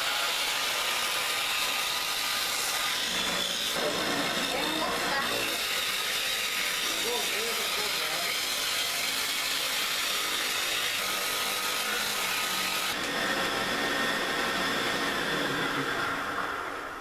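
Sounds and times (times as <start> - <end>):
machine cutting wood: 0.0 - 17.0.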